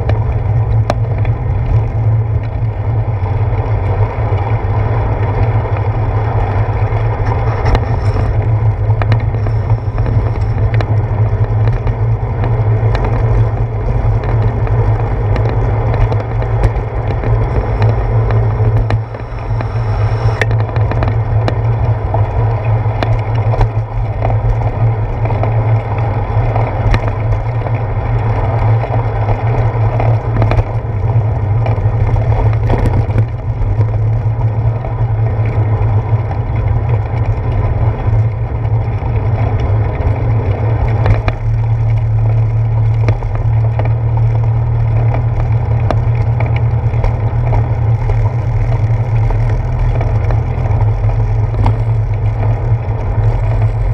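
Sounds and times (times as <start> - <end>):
bicycle knocks and rattles: 0.0 - 53.9
wind and road rumble: 0.0 - 53.9.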